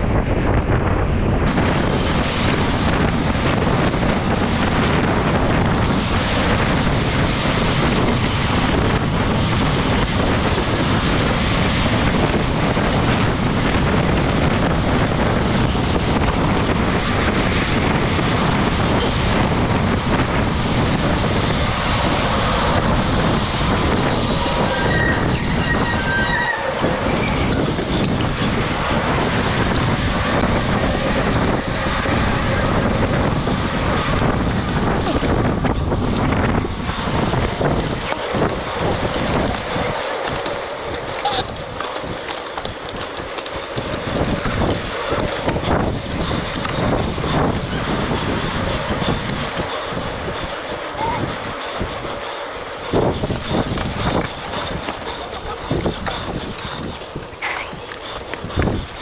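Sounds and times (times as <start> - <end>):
bike rolling noise: 0.0 - 59.0
wind rush on microphone: 0.0 - 59.0.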